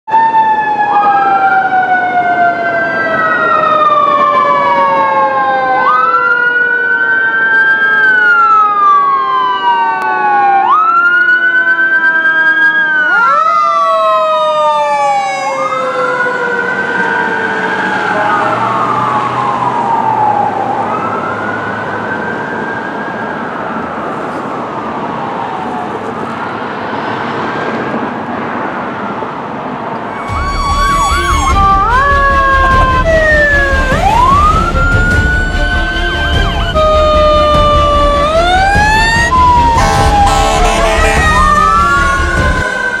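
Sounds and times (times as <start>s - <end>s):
low sliding siren tone: 0.1s - 27.0s, 30.0s - 43.0s
wailing siren: 0.1s - 43.0s.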